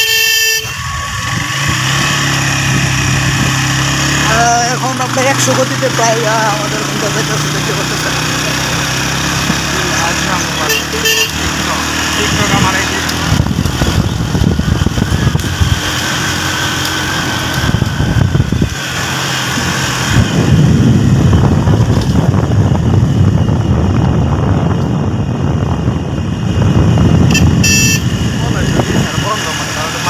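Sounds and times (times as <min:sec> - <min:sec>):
motorcycle engine running: 0:00.0 - 0:30.0
wind buffeting microphone: 0:00.7 - 0:08.2, 0:12.2 - 0:29.6.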